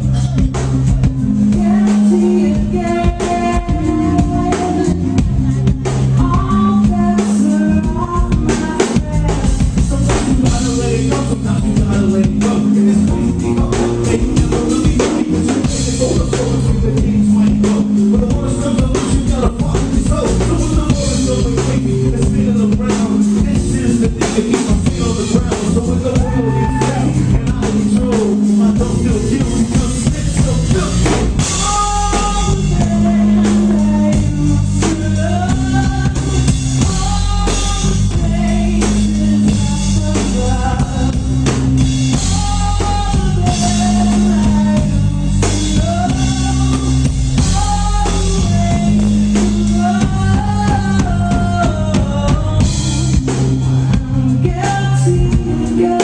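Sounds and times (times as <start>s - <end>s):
drum kit: 0.0s - 56.0s
electric bass: 0.0s - 56.0s
organ melody: 0.0s - 56.0s.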